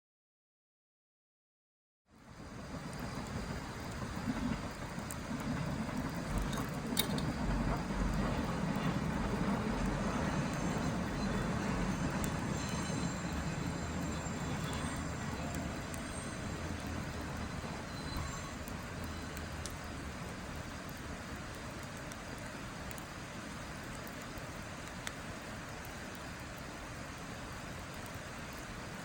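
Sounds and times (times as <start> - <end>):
fire crackling and popping: 2.1 - 29.0
wood fire rushing: 2.2 - 29.0.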